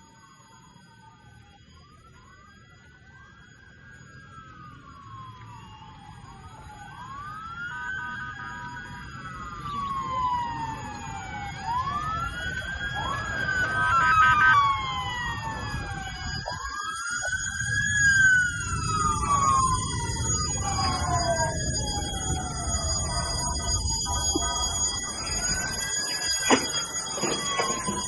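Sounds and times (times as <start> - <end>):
emergency sirens wailing: 0.0 - 28.0.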